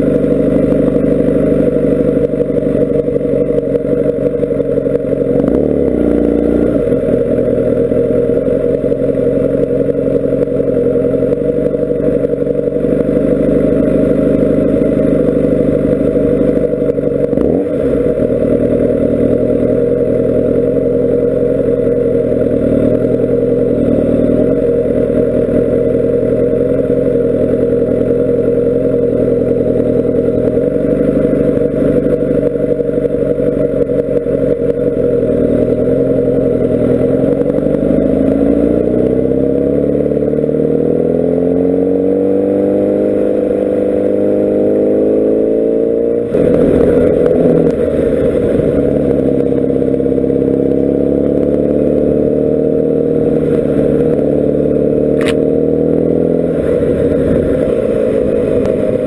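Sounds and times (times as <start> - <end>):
muffled motorcycle engine: 0.0 - 59.0.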